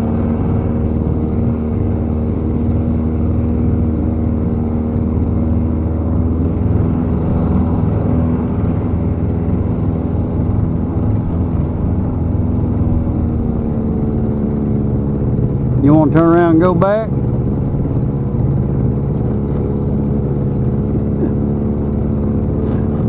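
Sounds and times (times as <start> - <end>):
outboard motor running: 0.0 - 23.0
water rushing along hull: 0.0 - 23.0.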